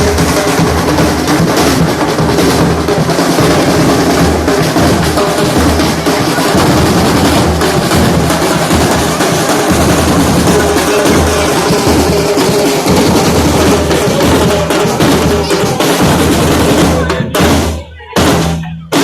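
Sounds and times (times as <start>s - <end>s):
music with heavy drum beat: 0.0s - 19.0s.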